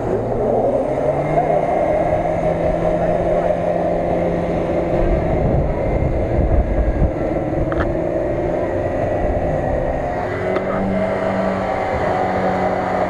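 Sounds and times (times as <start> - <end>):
off-road engine revving: 0.0 - 13.0
second vehicle engine steady: 0.0 - 13.0.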